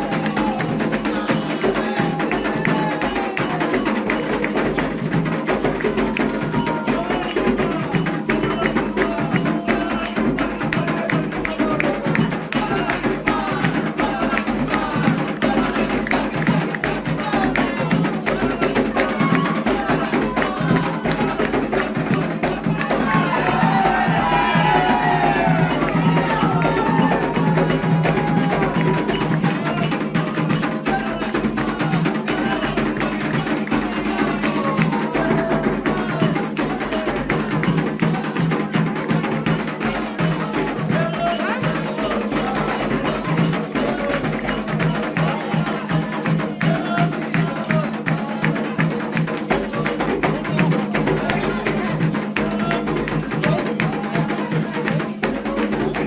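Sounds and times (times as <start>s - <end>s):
hand drums: 0.0s - 56.0s
sharp clacking percussion: 0.0s - 56.0s
voices singing: 0.0s - 56.0s.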